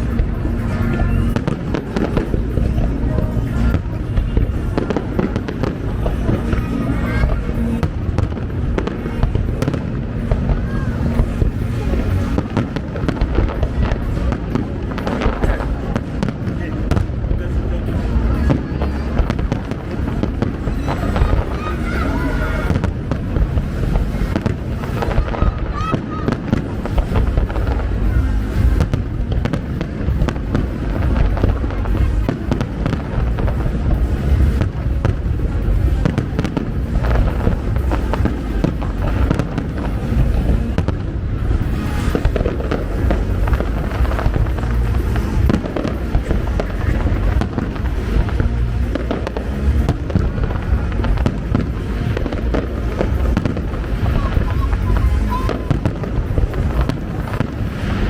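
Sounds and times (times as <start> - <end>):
fireworks bangs and crackles: 0.0 - 58.0
music: 0.0 - 58.0.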